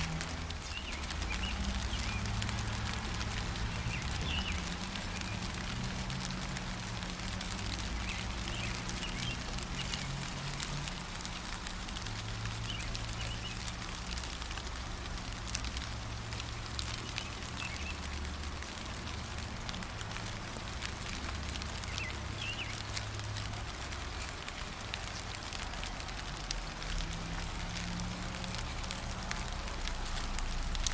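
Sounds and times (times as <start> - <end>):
steady gentle rain: 0.0 - 30.9.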